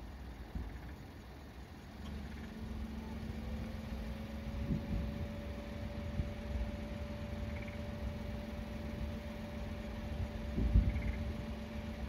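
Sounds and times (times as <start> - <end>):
low rumble: 0.0 - 12.0
steady hum: 0.0 - 12.0.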